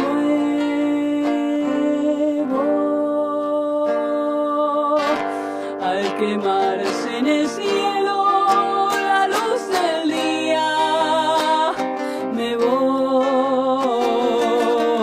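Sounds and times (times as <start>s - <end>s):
plucked acoustic guitar: 0.0s - 15.0s
woman singing: 0.0s - 15.0s.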